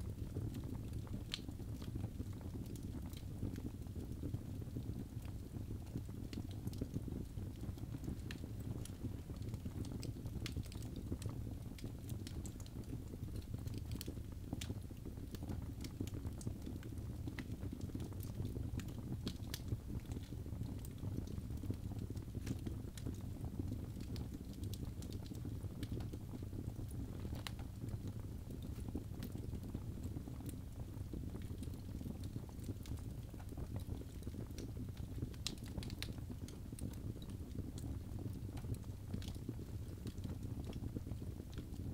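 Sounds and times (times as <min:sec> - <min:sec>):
fire crackling and popping: 0:00.0 - 0:41.9
fire rumbling: 0:00.1 - 0:41.9.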